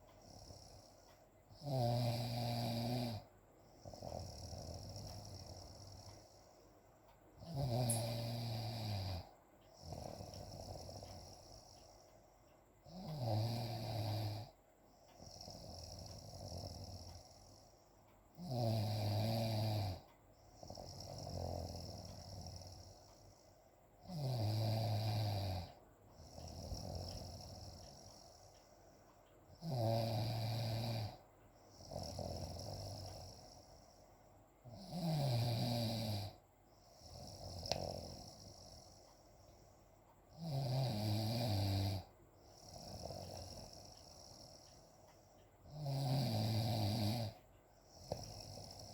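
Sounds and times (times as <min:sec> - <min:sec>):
person snoring: 0:00.2 - 0:06.6, 0:07.4 - 0:12.1, 0:12.8 - 0:28.6, 0:29.5 - 0:34.0, 0:34.6 - 0:39.2, 0:40.3 - 0:48.9.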